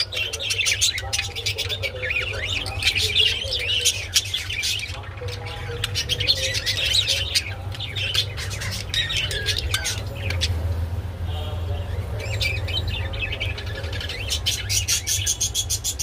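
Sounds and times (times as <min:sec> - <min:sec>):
budgerigars chattering and squawking: 0:00.0 - 0:16.0.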